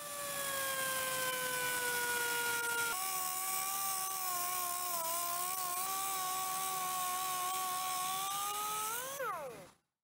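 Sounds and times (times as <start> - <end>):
cut-off wheel cutting metal rod: 0.6 - 9.7.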